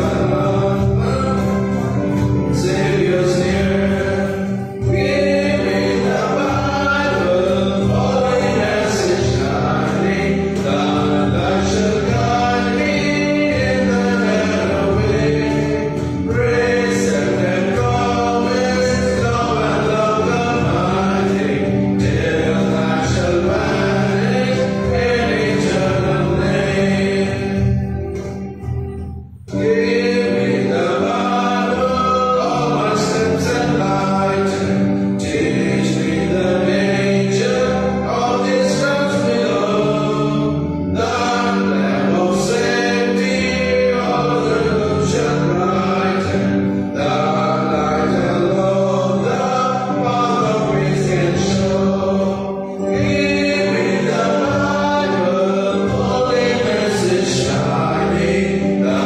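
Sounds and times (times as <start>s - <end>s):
group singing a hymn: 0.0s - 59.0s
held accompaniment: 0.0s - 59.0s
man singing through microphone: 0.0s - 59.0s.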